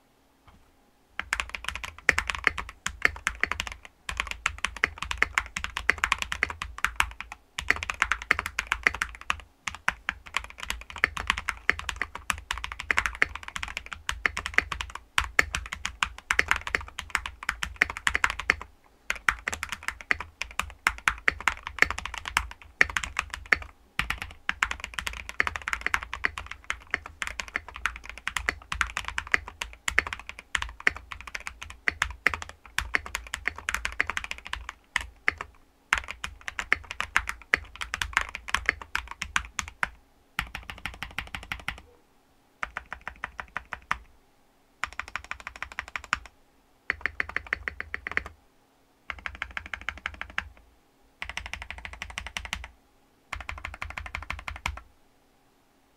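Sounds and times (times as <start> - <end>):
typing on mechanical keyboard: 1.2 - 41.8, 42.6 - 44.1, 44.8 - 46.3, 46.9 - 48.3, 49.1 - 50.6, 51.2 - 52.7, 53.3 - 54.8.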